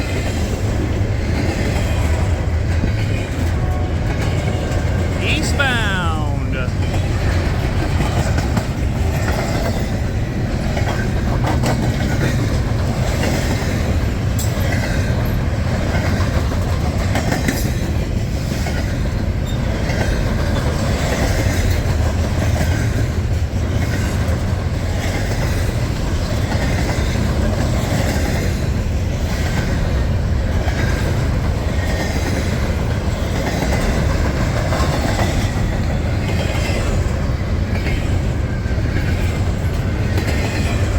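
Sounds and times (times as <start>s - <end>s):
freight train rumbling: 0.0s - 40.9s.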